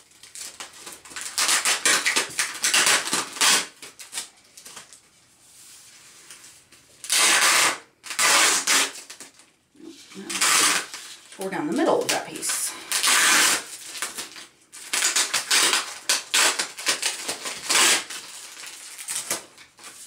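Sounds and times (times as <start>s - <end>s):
plastic wrap crinkling: 0.0s - 20.0s
tearing rips: 0.1s - 4.9s, 7.0s - 11.4s, 12.0s - 20.0s
packing tape pulled off: 0.1s - 5.0s, 7.0s - 11.4s, 12.0s - 20.0s.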